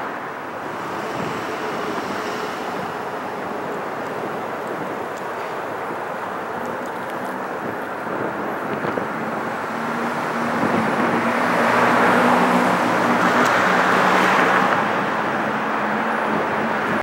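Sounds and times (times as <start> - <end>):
broad rushing sound: 0.0 - 16.8
low engine hum: 0.1 - 17.0.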